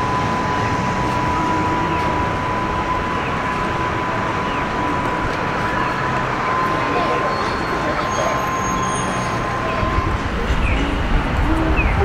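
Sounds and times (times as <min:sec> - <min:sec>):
constant high tone: 0:00.0 - 0:12.0
tram rumbling on tracks: 0:00.0 - 0:12.0.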